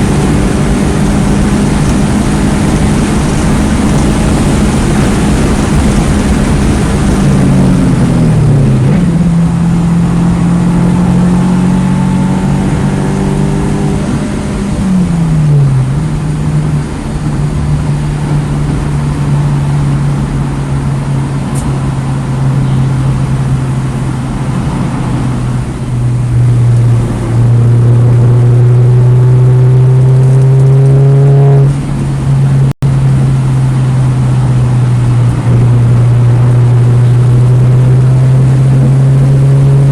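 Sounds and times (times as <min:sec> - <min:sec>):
car engine: 0:00.0 - 0:39.9
road and wind noise: 0:00.0 - 0:39.9.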